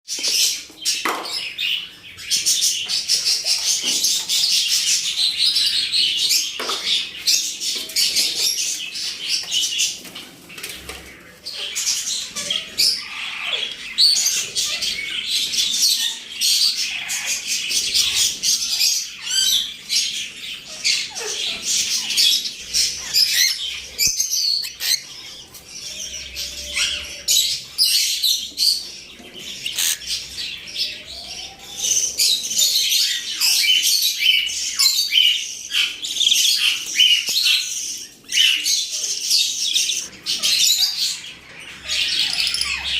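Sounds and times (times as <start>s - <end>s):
birds chirping and twittering: 0.1s - 42.9s.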